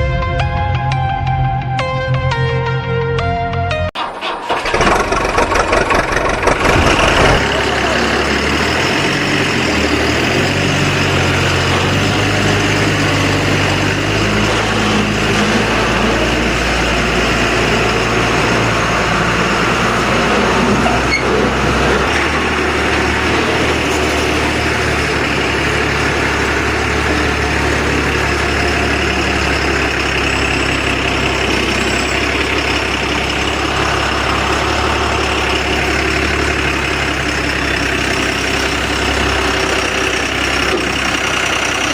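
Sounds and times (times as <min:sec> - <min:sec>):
truck engine running: 0:04.0 - 0:41.9.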